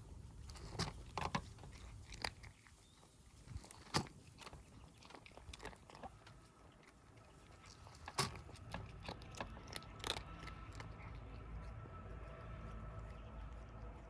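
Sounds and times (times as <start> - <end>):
kittens crunching food: 0.0 - 14.0.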